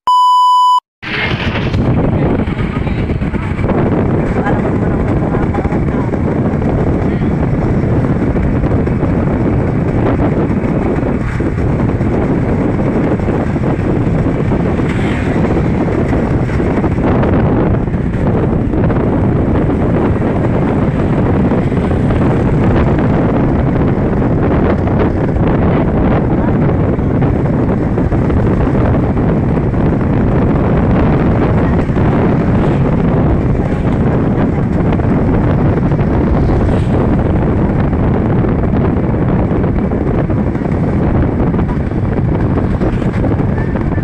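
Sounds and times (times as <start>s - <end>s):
wind on microphone: 1.0s - 44.0s
motorcycle tricycle running: 1.1s - 44.0s.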